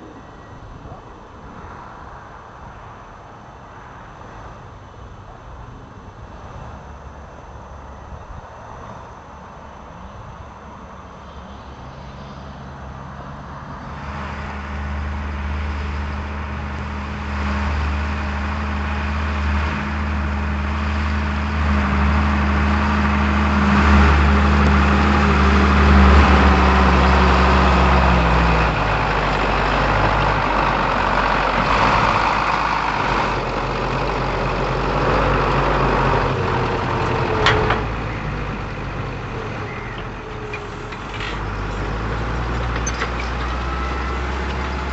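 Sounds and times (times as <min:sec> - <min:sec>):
tractor diesel engine working: 0:04.2 - 0:44.9.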